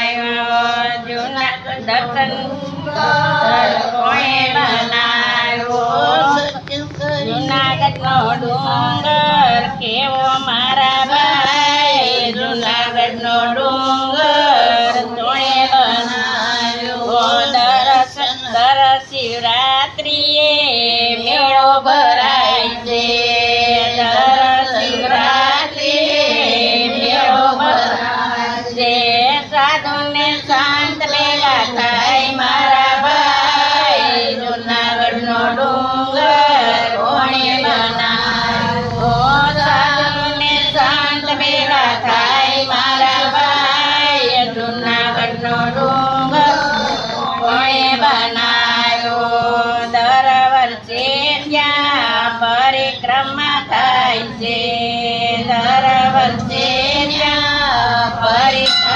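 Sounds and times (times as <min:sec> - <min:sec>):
women singing devotional folk song: 0:00.0 - 0:58.9.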